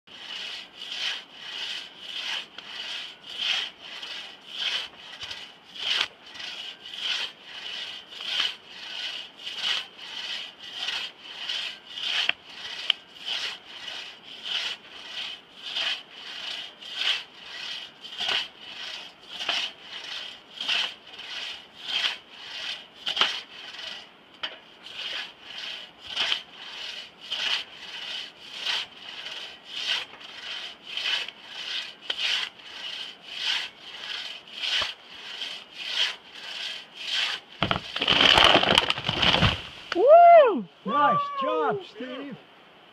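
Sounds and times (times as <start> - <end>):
saw rasping through log: 0.1 - 24.1, 24.8 - 39.4.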